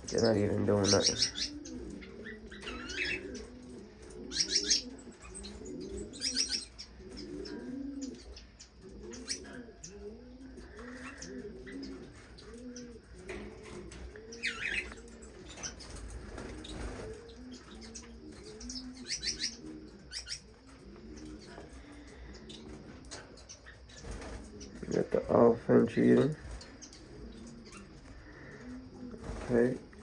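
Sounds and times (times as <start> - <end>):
finch chirps: 0.0 - 10.0, 10.6 - 30.0
low cooing calls: 0.0 - 30.0.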